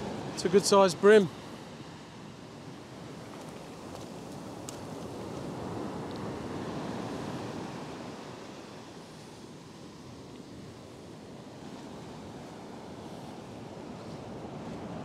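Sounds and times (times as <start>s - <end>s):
surf washing up beach: 0.0s - 15.0s.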